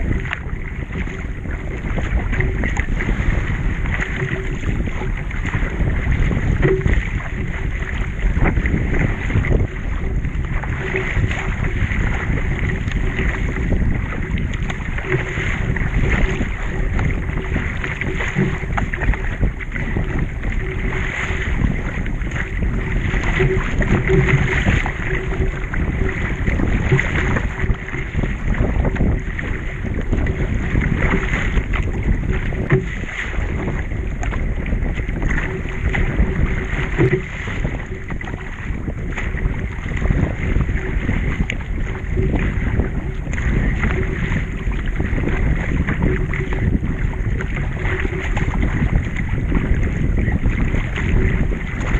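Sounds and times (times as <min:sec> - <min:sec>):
water splashing along hull: 0:00.0 - 0:51.9
wind buffeting microphone: 0:00.0 - 0:51.9.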